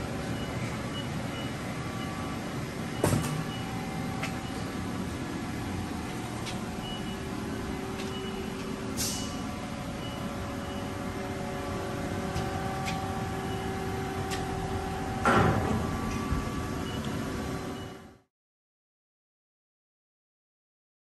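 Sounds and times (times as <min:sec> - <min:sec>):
machinery humming: 0:00.0 - 0:18.2.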